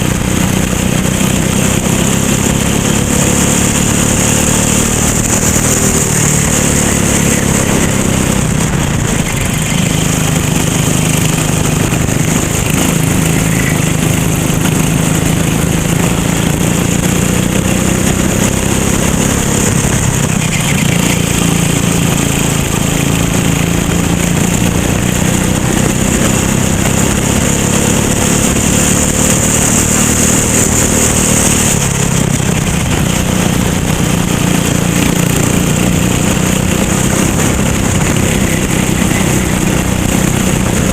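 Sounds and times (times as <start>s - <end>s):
racing kart engine: 0.0s - 40.9s.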